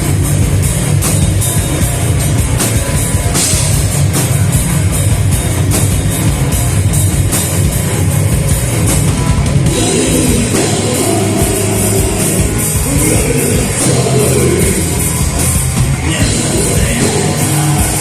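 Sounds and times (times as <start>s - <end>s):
heavy metal band playing live: 0.0s - 18.0s
rapid drum and cymbal hits: 0.0s - 18.0s.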